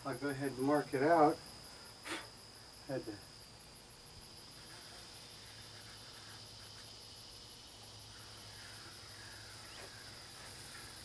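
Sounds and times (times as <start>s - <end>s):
insects buzzing: 0.0s - 11.0s
pulsing insect chirp: 0.0s - 11.0s.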